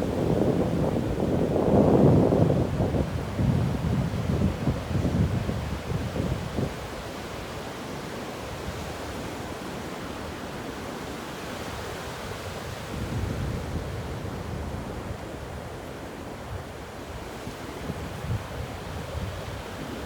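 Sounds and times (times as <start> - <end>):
ocean waves breaking on a beach: 0.0 - 20.0.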